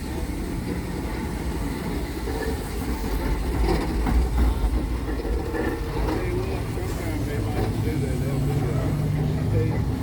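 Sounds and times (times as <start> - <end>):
steam locomotive rumbling: 0.0 - 10.0.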